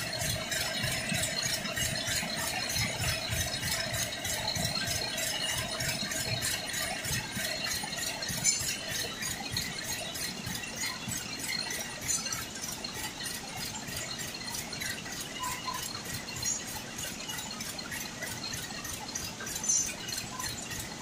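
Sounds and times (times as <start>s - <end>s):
textile machinery rattling: 0.0s - 21.0s.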